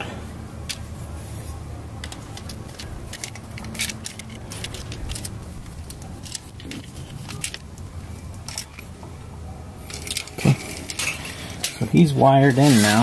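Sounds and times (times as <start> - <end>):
low background rumble: 0.0 - 12.2.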